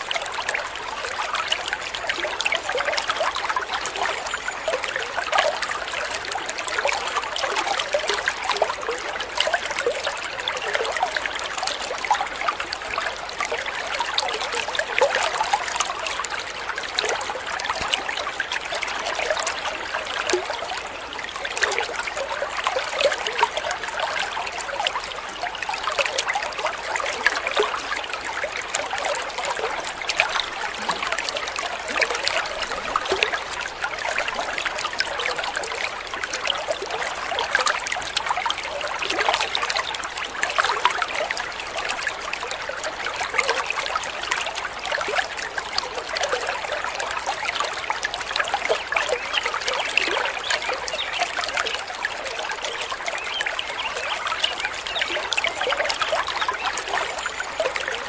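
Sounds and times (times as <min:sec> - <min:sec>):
stream water trickling: 0:00.0 - 0:58.0.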